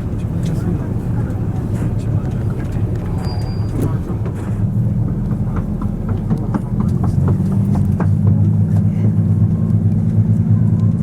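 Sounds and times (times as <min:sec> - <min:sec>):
railcar diesel engine drone: 0:00.0 - 0:11.0.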